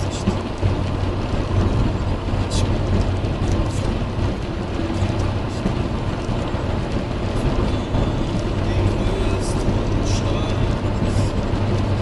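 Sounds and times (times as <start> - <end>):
engine and road drone: 0.0 - 12.0
tyres hissing on wet road: 0.0 - 12.0.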